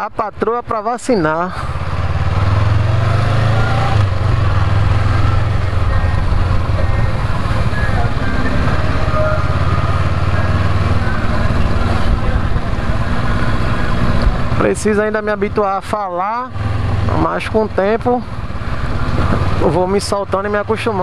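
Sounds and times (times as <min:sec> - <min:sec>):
motorcycle engine rumbling: 0:00.4 - 0:21.0.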